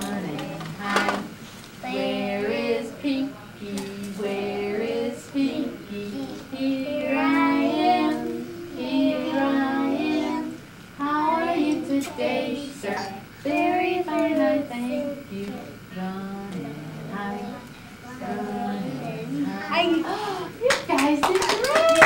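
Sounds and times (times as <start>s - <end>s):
woman and children singing: 0.0s - 21.4s.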